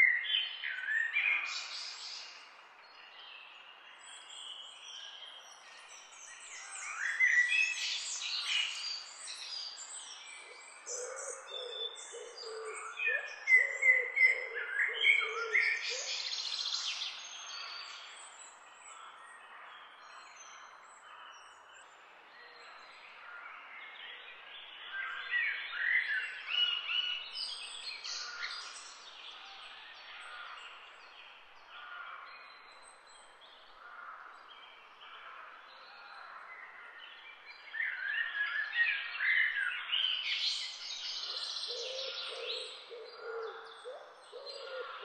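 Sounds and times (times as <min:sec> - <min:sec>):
birds chirping and singing: 0:03.3 - 0:23.0, 0:23.8 - 0:45.0.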